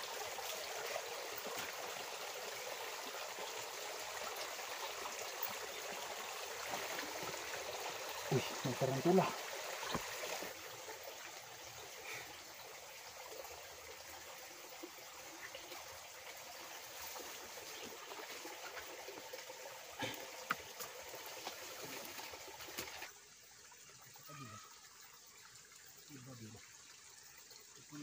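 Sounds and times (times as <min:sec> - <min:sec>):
stream trickling: 0:00.0 - 0:28.0.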